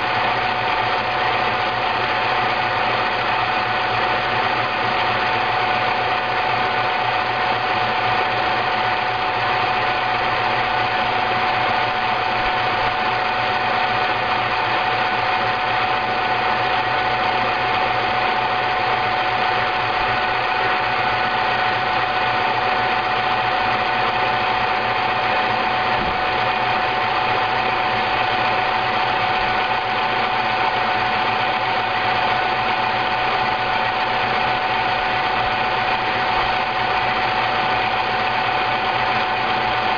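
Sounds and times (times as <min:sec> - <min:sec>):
milk frother motor whirring: 0:00.0 - 0:39.9.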